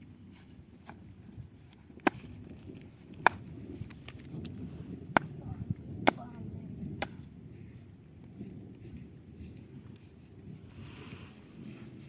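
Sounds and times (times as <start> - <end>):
grass rustling: 0.0 - 12.0.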